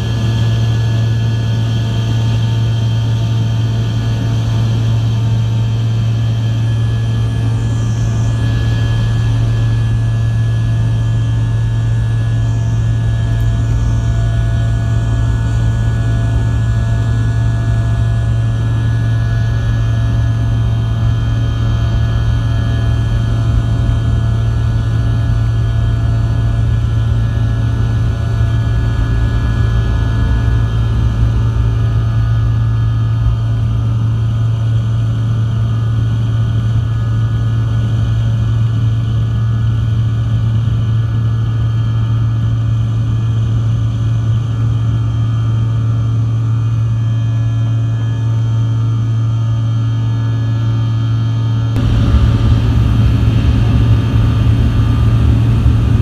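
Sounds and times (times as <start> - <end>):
engine drone: 0.0 - 56.0.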